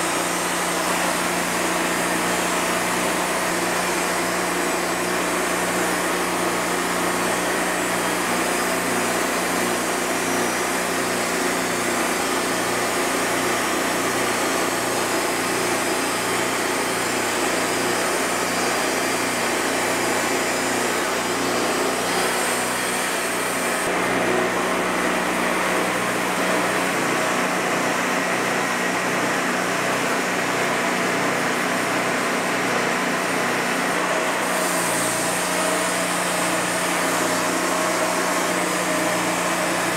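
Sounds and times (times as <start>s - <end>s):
bandsaw sawmill sawing log: 0.0s - 39.9s.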